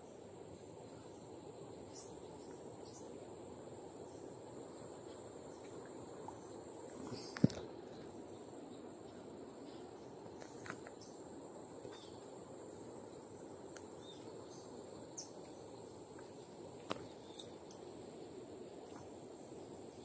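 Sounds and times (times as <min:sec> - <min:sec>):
faint low background hiss: 0:00.0 - 0:20.0
high insect whine: 0:00.0 - 0:20.0.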